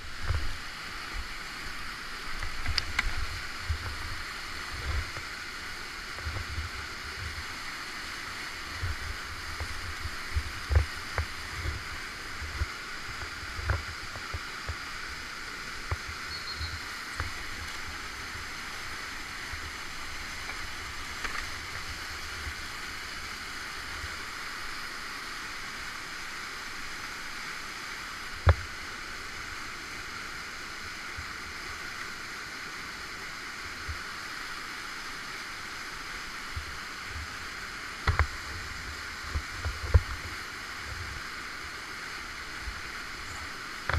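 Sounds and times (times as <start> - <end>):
whitewater rushing: 0.0 - 43.9.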